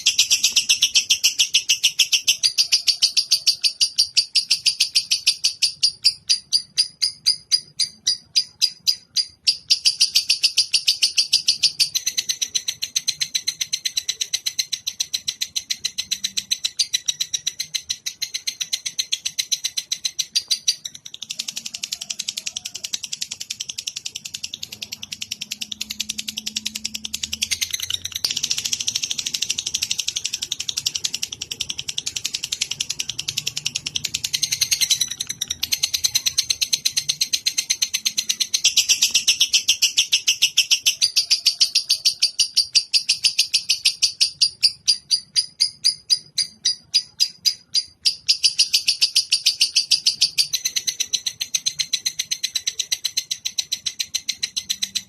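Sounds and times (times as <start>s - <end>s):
bird chattering trills: 0.0s - 55.0s.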